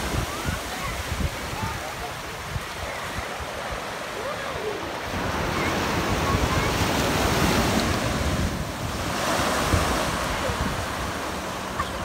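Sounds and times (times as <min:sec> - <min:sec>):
surf breaking on sandy beach: 0:00.0 - 0:12.0
wind buffeting microphone: 0:00.0 - 0:12.0.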